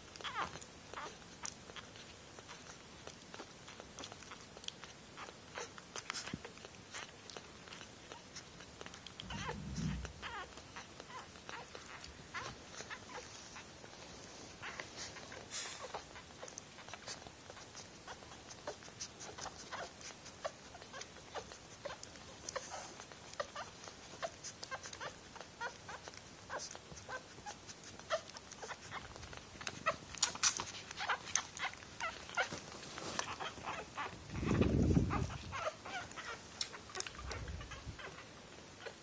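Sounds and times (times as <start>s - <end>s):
puppies suckling: 0.0s - 39.0s
puppies squeaking and whimpering: 0.1s - 39.0s.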